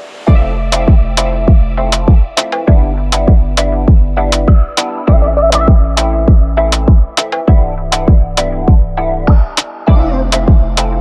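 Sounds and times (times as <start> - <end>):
upbeat electronic music: 0.0 - 11.0.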